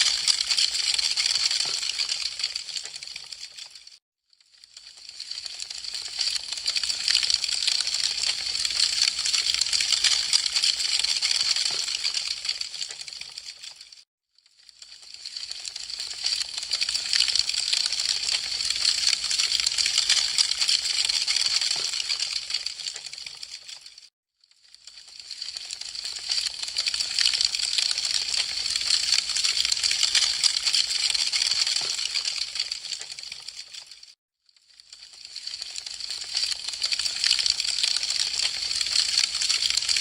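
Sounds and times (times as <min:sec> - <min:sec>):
wood fire crackling: 0:00.0 - 0:03.7, 0:04.8 - 0:13.9, 0:14.7 - 0:23.8, 0:25.0 - 0:34.1, 0:35.1 - 0:40.0.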